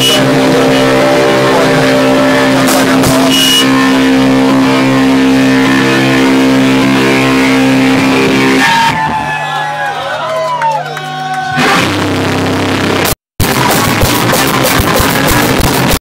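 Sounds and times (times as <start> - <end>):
distorted guitar chord ringing: 0.0 - 9.0, 11.6 - 16.0.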